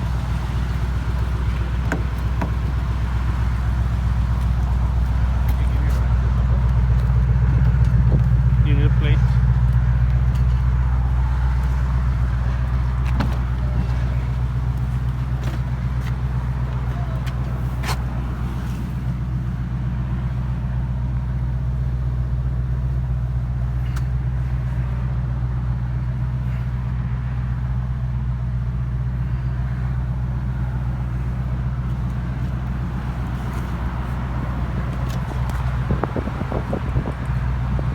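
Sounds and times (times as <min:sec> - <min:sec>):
faint engine clicks: 0:00.0 - 0:25.5, 0:26.3 - 0:37.9
car engine idling: 0:00.0 - 0:37.9.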